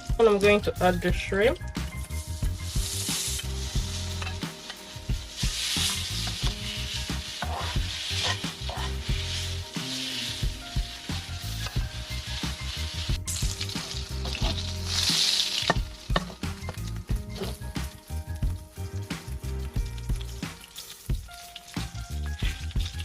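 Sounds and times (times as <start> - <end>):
shrimp sizzling in a pan: 1.5 - 23.0.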